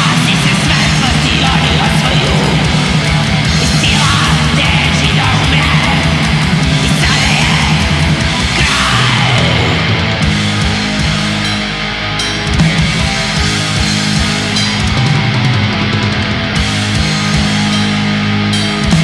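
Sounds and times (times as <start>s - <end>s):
distorted electric guitars: 0.0s - 19.0s
fast drumming: 0.0s - 19.0s.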